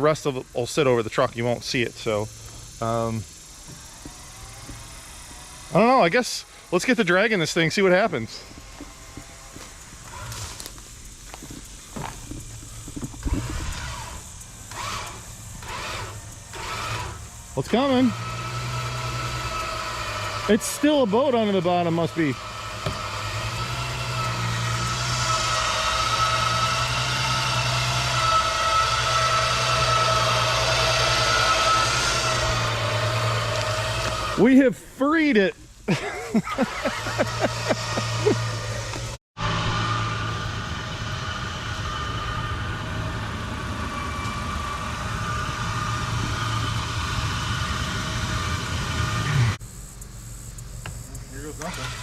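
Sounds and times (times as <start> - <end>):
jeep engine running under load: 0.0 - 34.4, 35.7 - 52.0
hull dragging over ground: 0.0 - 34.9, 35.9 - 49.6
high whine: 0.0 - 52.0.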